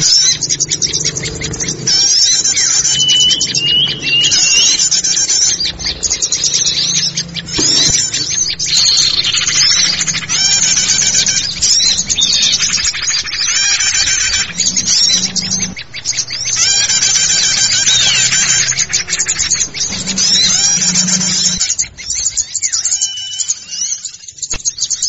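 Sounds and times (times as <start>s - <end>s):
small birds twittering: 0.0s - 25.0s.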